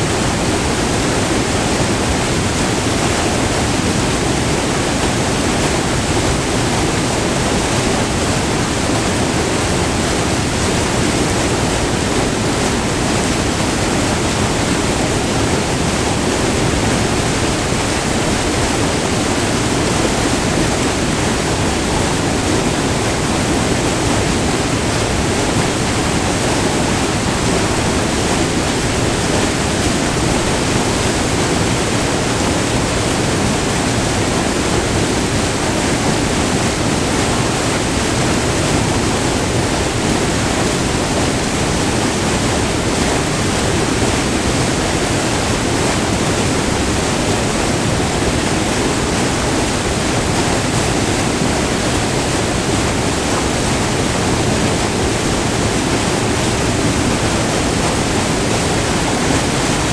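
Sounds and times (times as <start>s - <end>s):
waterfall rushing over rock: 0.0s - 59.9s.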